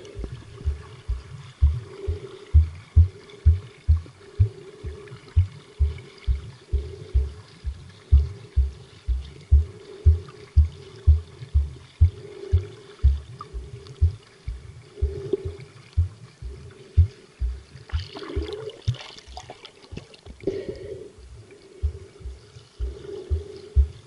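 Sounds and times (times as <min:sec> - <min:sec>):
muffled underwater water noise: 0:00.0 - 0:24.0
splashing and bubbling: 0:00.0 - 0:24.0
low thumps: 0:00.2 - 0:18.6, 0:21.2 - 0:24.0.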